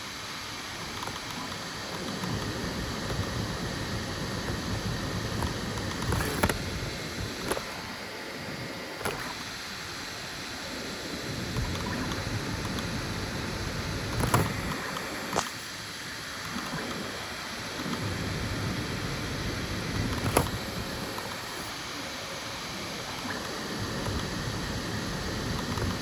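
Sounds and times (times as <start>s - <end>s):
printer fans and motors whirring: 0.0s - 26.0s.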